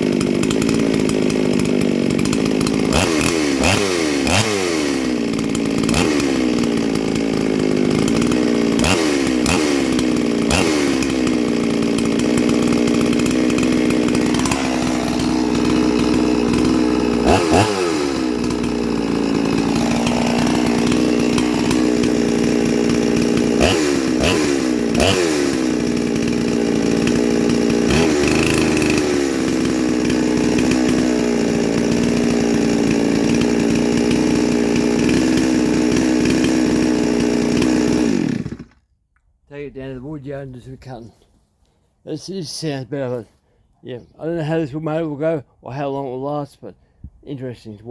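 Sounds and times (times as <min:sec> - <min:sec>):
chainsaw engine idling and revving: 0:00.0 - 0:38.9.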